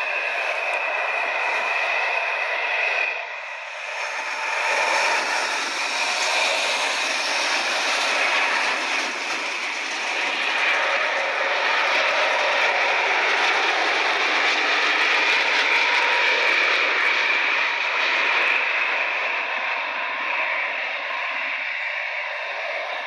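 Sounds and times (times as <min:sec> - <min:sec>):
jet airliner engines whining: 0:00.0 - 0:23.0.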